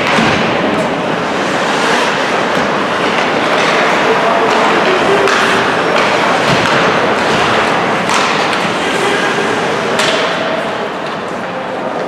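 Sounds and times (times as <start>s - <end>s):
ice rink rushing noise: 0.0s - 12.0s.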